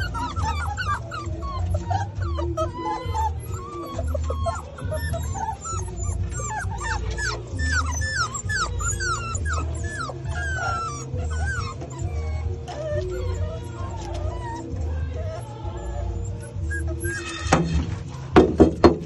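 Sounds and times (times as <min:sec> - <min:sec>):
background music with low beat: 0:00.0 - 0:19.0
puppies whimpering and yipping: 0:00.0 - 0:19.0.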